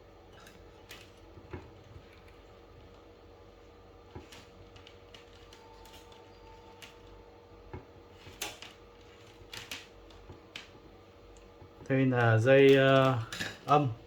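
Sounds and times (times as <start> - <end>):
clicks and rustles of cable wires: 0.3 - 14.0.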